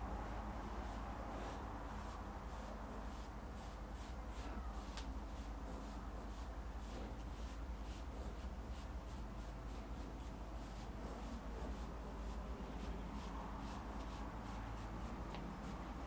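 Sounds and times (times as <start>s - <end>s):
comb strokes through hair: 0.6s - 16.0s.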